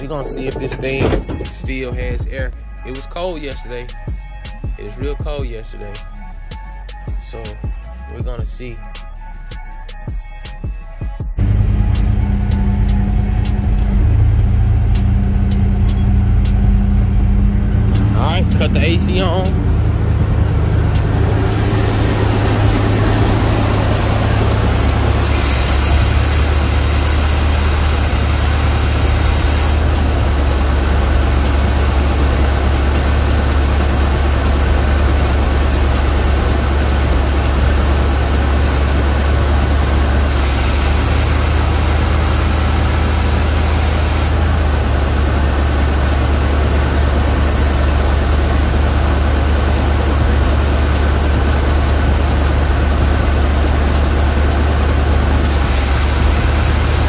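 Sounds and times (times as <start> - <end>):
air conditioning running: 0.0 - 8.6, 11.4 - 57.0
truck engine idling: 0.0 - 10.5, 11.3 - 57.0.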